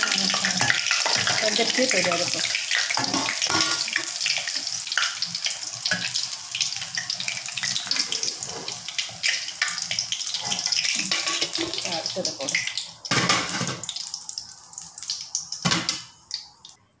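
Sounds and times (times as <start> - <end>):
deep-frying sizzle with crackles: 0.0 - 16.8.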